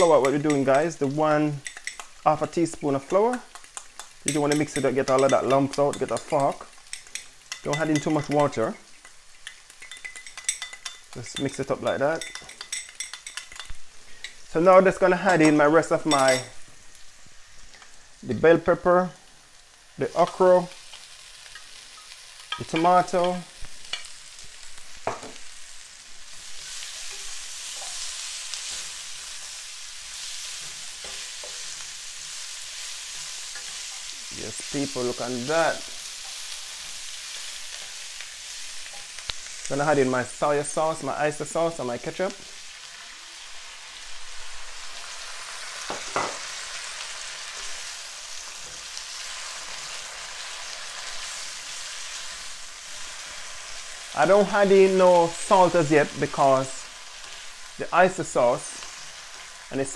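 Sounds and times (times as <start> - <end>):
vegetables sizzling in a frying pan: 0.0 - 59.9.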